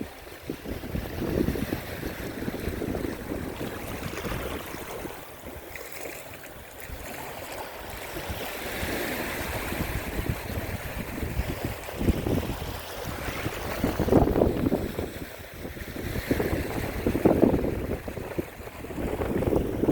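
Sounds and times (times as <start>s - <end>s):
sea waves washing on beach: 0.0s - 19.9s
wind rumbling on microphone: 0.0s - 19.9s.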